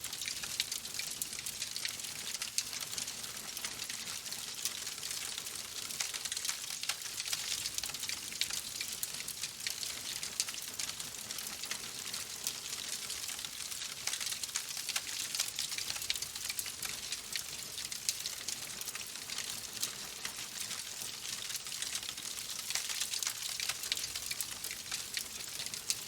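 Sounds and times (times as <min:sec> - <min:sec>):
raindrops ticking on a surface: 0:00.0 - 0:26.0
steady rain: 0:00.0 - 0:26.0.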